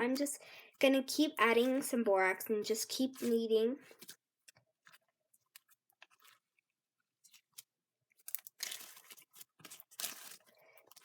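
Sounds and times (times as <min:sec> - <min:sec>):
slime squelching and crackling: 0:00.0 - 0:11.0.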